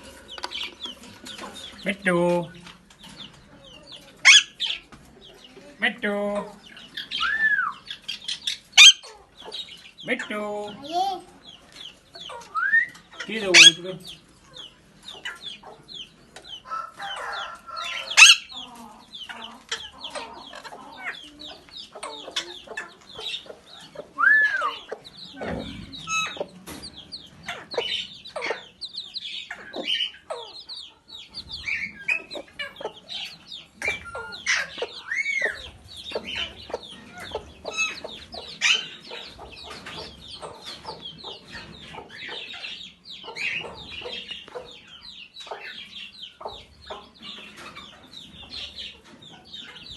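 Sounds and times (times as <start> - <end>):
bird calls and squawks: 0.0 - 5.8, 6.4 - 49.9
chickens clucking: 0.0 - 49.9.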